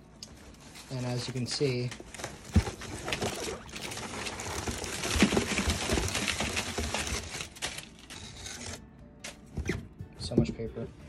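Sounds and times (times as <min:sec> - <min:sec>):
packing paper rustling: 0:00.3 - 0:09.5.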